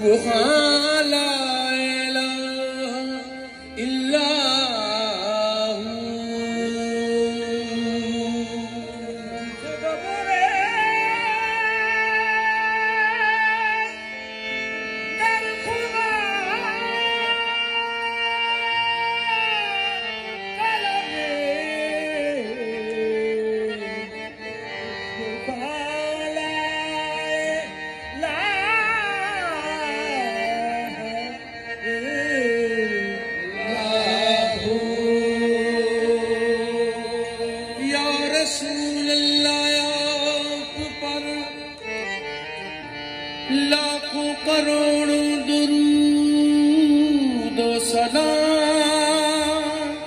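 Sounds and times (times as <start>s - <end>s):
harmonium drone: 0.0s - 50.0s.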